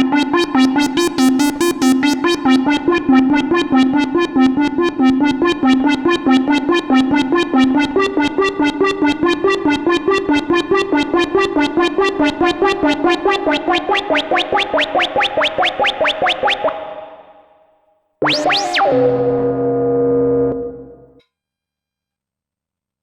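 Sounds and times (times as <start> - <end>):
synthesizer pitch swoop held note: 0.0 - 17.5, 18.2 - 21.2
synthesizer sequenced notes: 0.0 - 17.5, 18.2 - 21.2.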